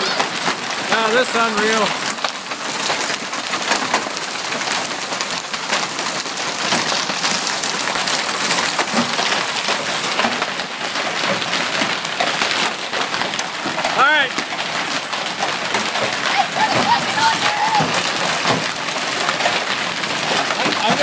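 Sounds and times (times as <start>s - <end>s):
hail pelting down: 0.0s - 21.0s
heavy rain: 0.0s - 21.0s.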